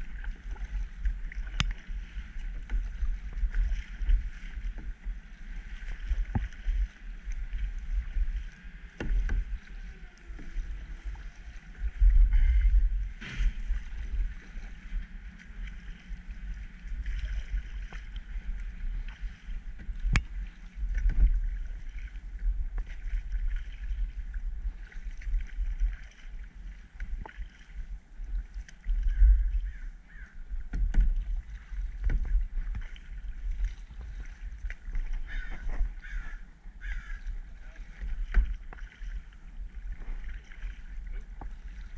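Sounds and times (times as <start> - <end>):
low microphone rumble: 0.0 - 41.9
paddles splashing water: 0.0 - 41.9.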